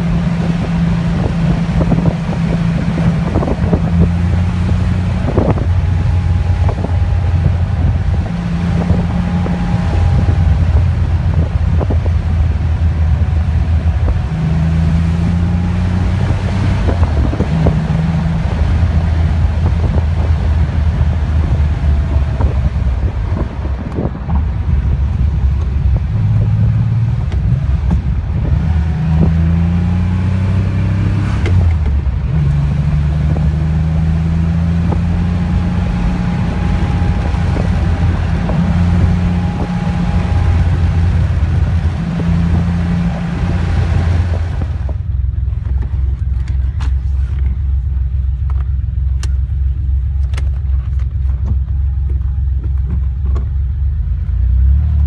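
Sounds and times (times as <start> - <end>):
car engine heard from cabin: 0.0 - 55.0.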